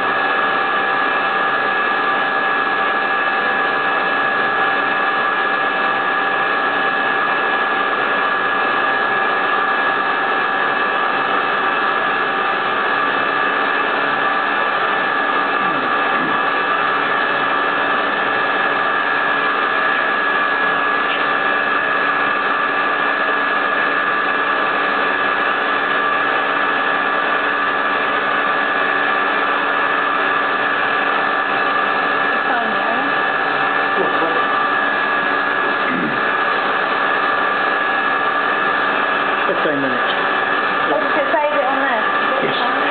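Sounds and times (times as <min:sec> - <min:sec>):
milling machine spindle whine: 0:00.0 - 0:42.9.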